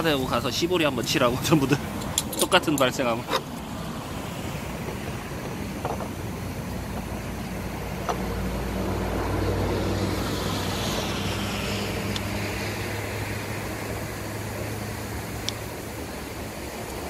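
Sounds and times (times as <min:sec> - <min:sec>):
low engine hum: 0:00.0 - 0:17.0
vehicle passing: 0:03.0 - 0:16.8.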